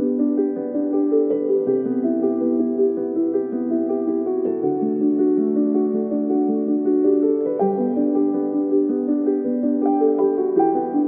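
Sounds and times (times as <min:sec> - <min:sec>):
soft piano melody: 0:00.0 - 0:11.0.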